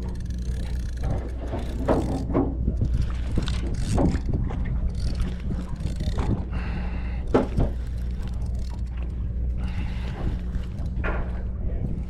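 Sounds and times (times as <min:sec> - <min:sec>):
boat machinery humming: 0:00.0 - 0:12.0
gear knocking and clattering: 0:00.0 - 0:12.0.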